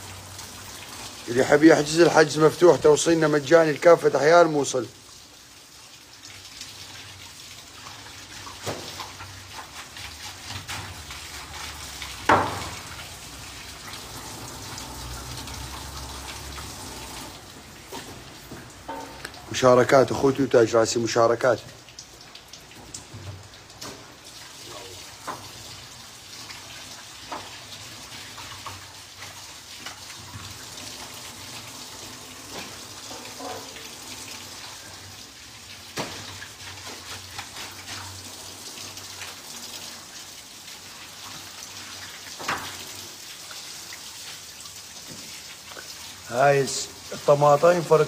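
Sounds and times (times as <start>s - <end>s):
running water: 0.0s - 48.0s.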